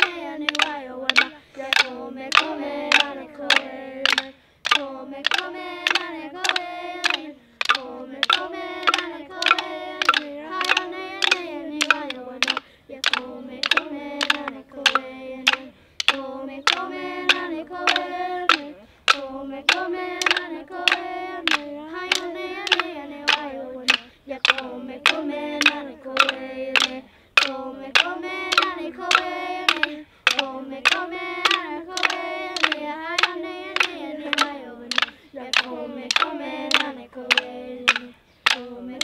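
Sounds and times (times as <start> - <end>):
sharp steady beat: 0.0 - 38.7
children singing: 0.0 - 39.0.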